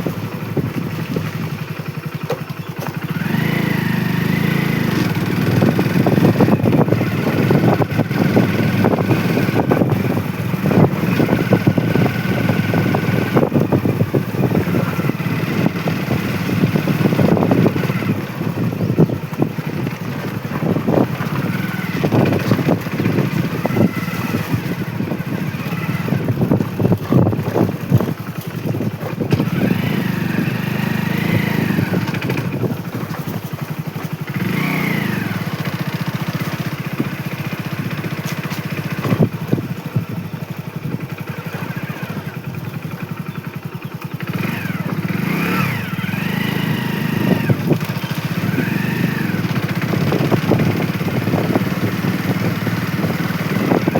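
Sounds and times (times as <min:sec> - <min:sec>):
motorcycle engine rumbling: 0:00.0 - 0:53.9.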